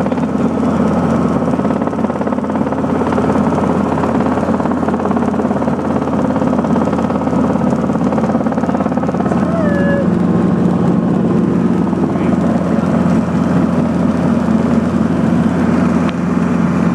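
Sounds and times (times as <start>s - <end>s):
helicopter engine and rotor: 0.0s - 16.9s.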